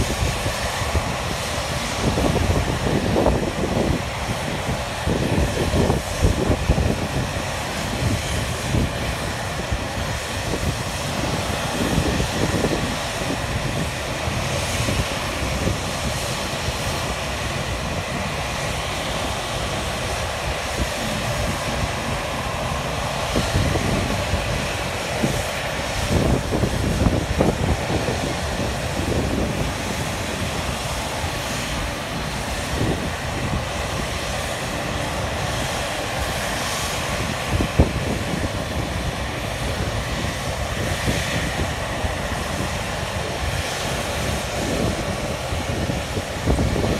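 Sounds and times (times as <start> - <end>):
jet blast buffeting microphone: 0.0 - 46.9
jet engines at take-off thrust: 0.0 - 46.9.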